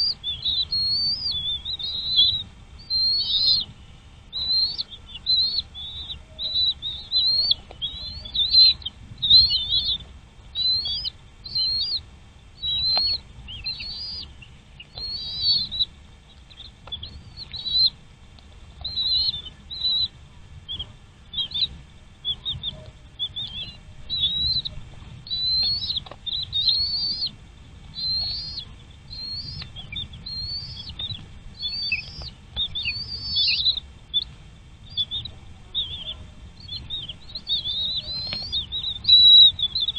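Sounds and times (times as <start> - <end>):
chicks chirping: 0.0 - 39.9.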